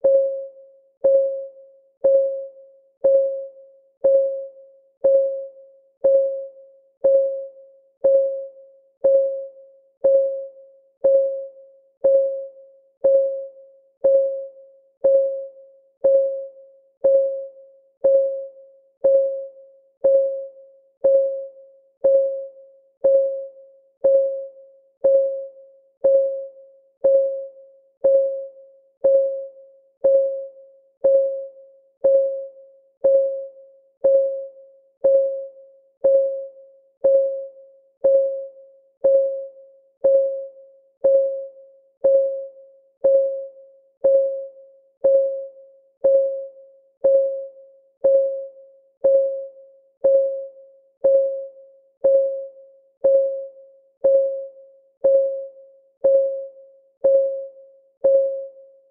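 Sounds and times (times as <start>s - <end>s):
countdown timer ticking: 1.0s - 58.6s.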